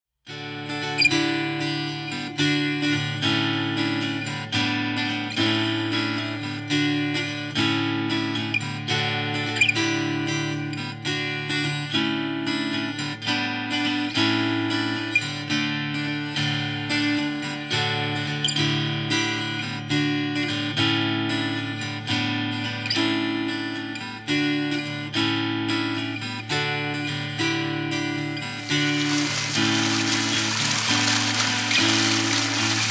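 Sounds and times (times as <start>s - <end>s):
acoustic guitar chords: 0.3s - 32.9s.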